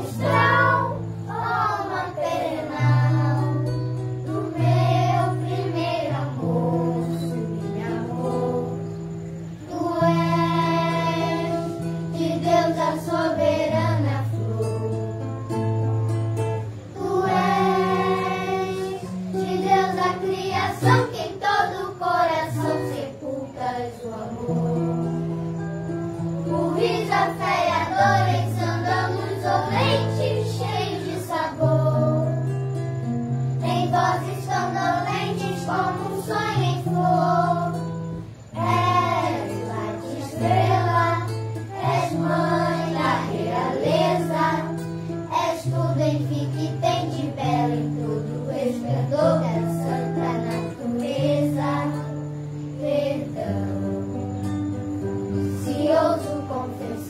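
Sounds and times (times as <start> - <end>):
children singing: 0.0 - 15.3, 16.6 - 25.6, 26.3 - 32.6, 33.5 - 57.0.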